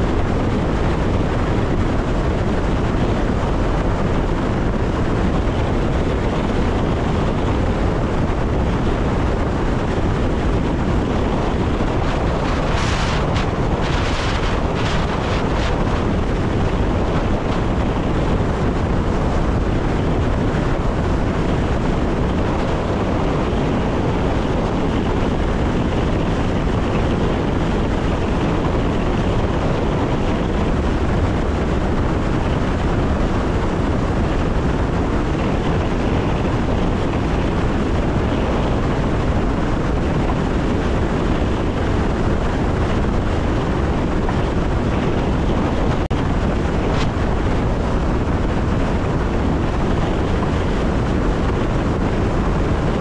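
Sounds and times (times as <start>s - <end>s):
rushing wind noise: 0.0s - 53.0s
train wheels rumbling on rails: 0.0s - 53.0s.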